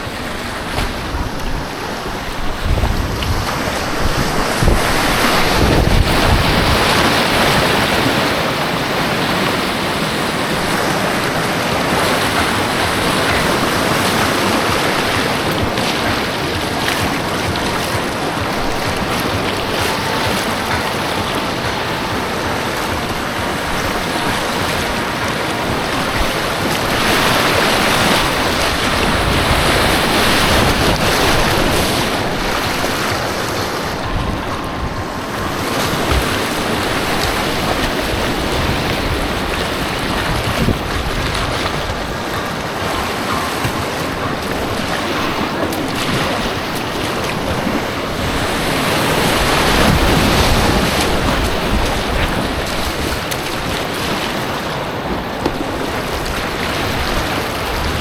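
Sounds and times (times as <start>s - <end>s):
rushing white water: 0.0s - 58.0s.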